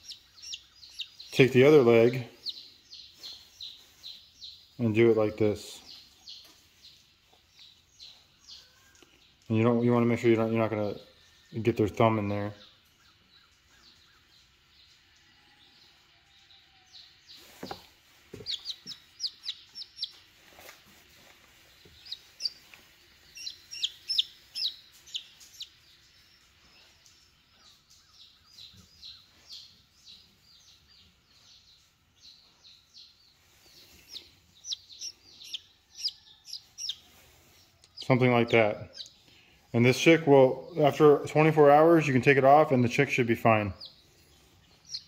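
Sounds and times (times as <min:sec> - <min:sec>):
chick peeping: 0:00.0 - 0:15.2, 0:15.8 - 0:45.0.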